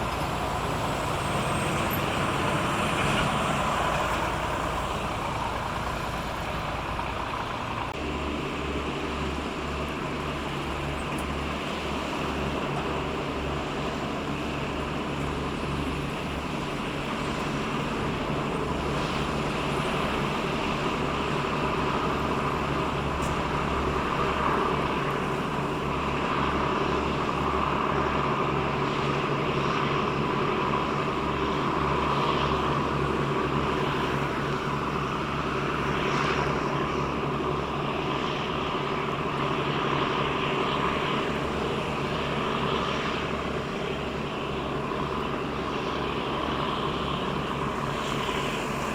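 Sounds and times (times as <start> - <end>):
boat engine droning: 0.0 - 48.9.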